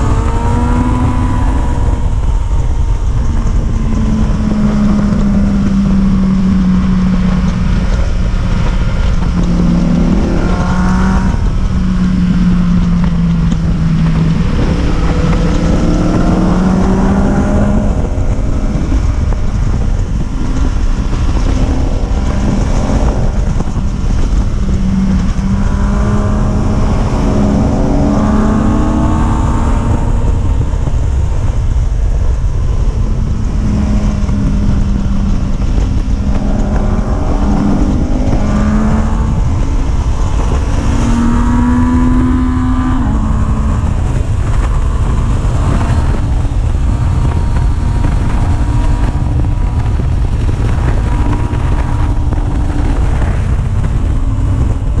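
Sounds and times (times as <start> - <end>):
vehicle engine running: 0.0 - 55.0
wind buffeting microphone: 0.0 - 55.0.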